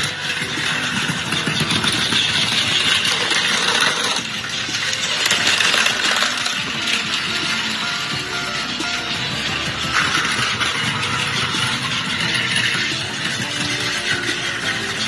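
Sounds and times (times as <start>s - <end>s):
toy vehicles whirring and clattering: 0.0s - 15.0s.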